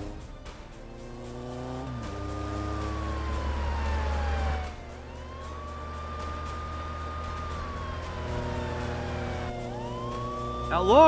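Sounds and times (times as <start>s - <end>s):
deep vehicle rumble: 0.0s - 10.8s
police siren wailing: 1.6s - 11.0s.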